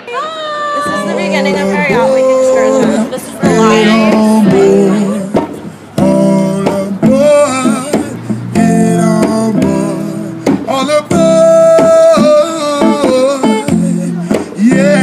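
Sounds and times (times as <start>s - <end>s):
acoustic guitar: 0.0s - 15.0s
person singing: 0.0s - 15.0s.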